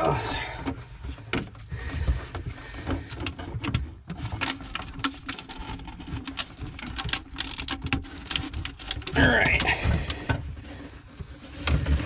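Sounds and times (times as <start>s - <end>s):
clicks and crackles of vinyl hose: 0.0s - 12.0s.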